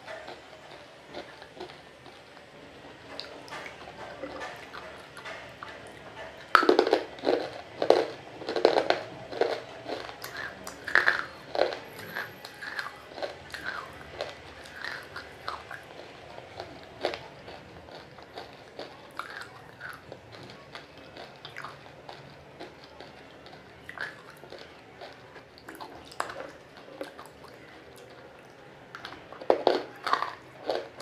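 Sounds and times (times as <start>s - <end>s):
close chewing wet crunches: 0.0s - 31.0s.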